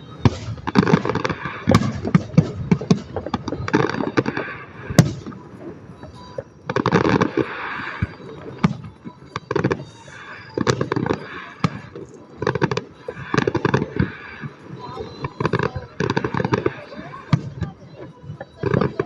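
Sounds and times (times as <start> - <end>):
loud firework bangs: 0.0 - 17.7
fireworks crackling pops: 0.0 - 19.0.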